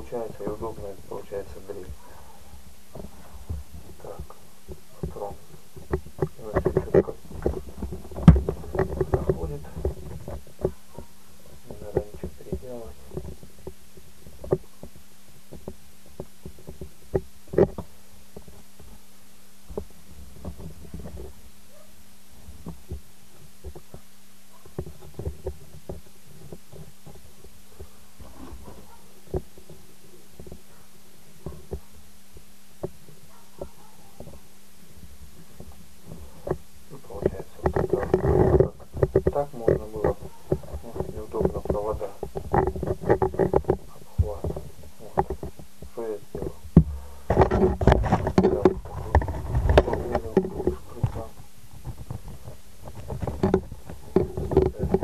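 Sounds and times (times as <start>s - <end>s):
plastic parts rubbing and scraping: 0.0s - 19.0s, 19.7s - 55.0s
hands rustling: 0.0s - 55.0s
steady low hum: 0.0s - 55.0s.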